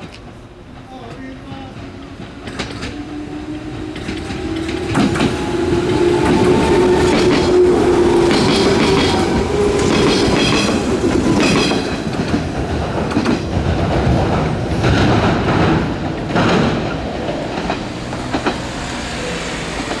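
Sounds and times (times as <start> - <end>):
train wheels clacking over rail joints: 0.0 - 3.0, 3.9 - 20.0
electric train passing: 0.0 - 20.0.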